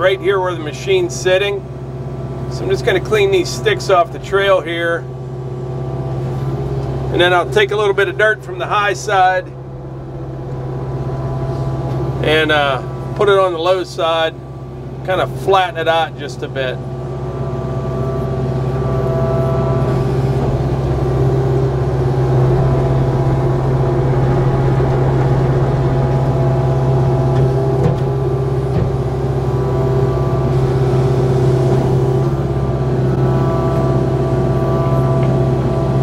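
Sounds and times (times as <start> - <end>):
diesel engine running: 0.0 - 36.0
hydraulic whine: 0.0 - 36.0.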